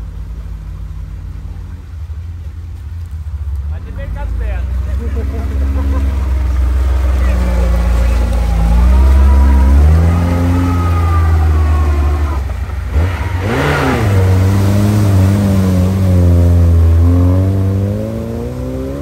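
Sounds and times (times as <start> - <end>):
car engine revving: 0.0 - 19.0
mud and water rushing off wheels: 0.0 - 19.0.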